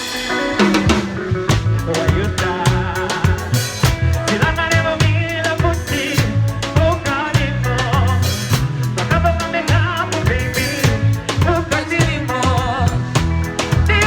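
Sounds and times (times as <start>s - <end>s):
bass line: 0.0s - 14.0s
drum kit with rimshots: 0.0s - 14.0s.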